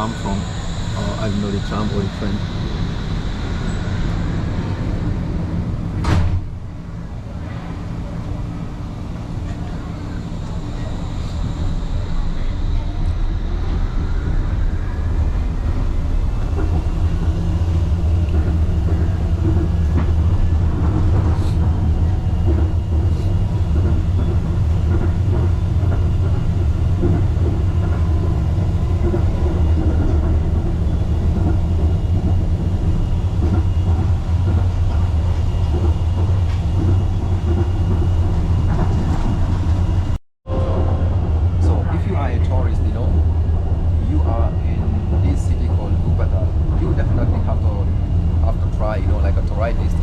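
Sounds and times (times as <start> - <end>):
faint high whine: 0.0 - 50.0
monorail car rumbling: 0.0 - 50.0.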